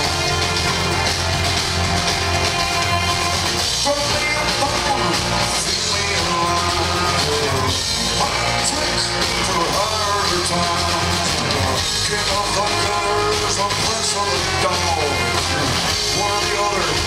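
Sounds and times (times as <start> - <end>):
electric bass: 0.0 - 17.0.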